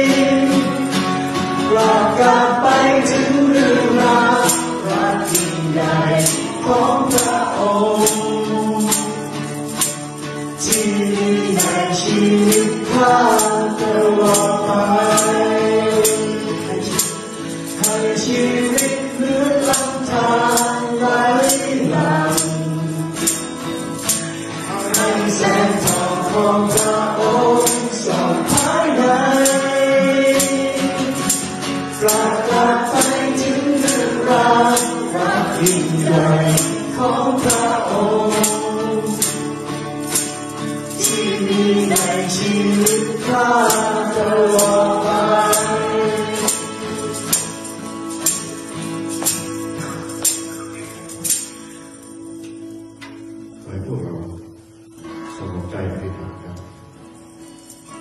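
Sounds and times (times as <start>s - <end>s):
group singing worship song: 0.0s - 51.6s
tambourine hits: 0.0s - 53.6s, 56.8s - 58.0s
strummed acoustic guitars: 0.0s - 58.0s.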